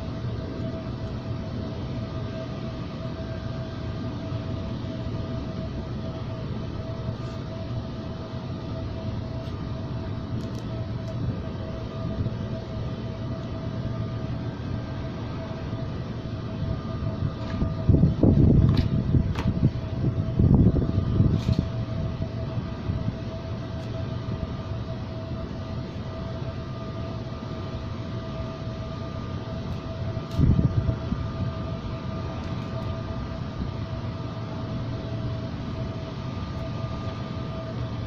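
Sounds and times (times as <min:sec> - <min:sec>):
mechanical hum with pitched tone: 0:00.0 - 0:38.0.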